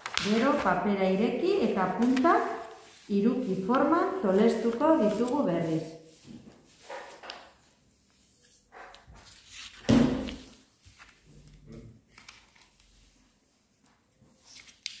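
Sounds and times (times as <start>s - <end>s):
paper rustling and creasing: 0.0s - 13.2s.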